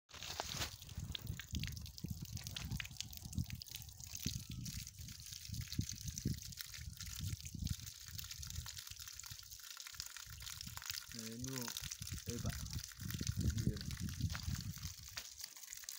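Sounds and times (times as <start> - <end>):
water trickling onto concrete: 0.1 - 15.9.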